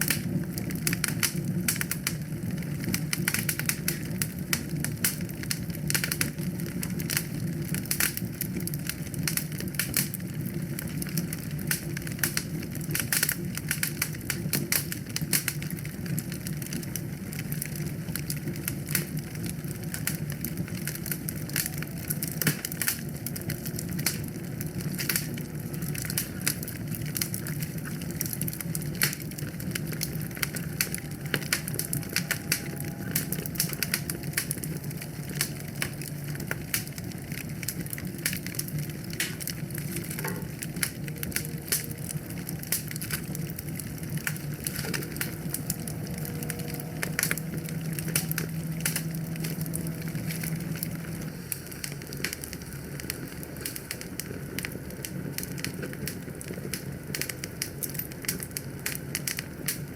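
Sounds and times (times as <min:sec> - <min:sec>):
low rush of flames: 0:00.0 - 0:59.9
wood fire crackling: 0:00.0 - 0:59.9.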